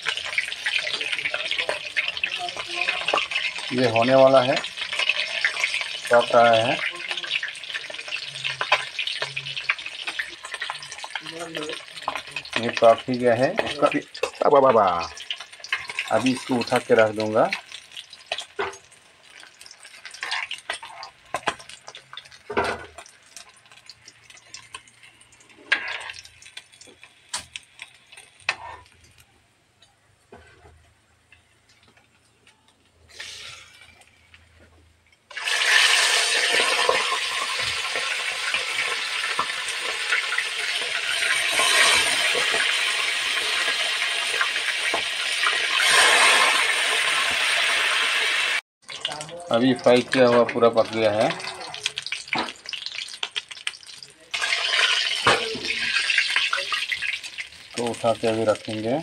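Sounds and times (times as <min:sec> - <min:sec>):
fish sizzling in hot oil: 0:00.0 - 0:29.3, 0:35.2 - 0:59.0.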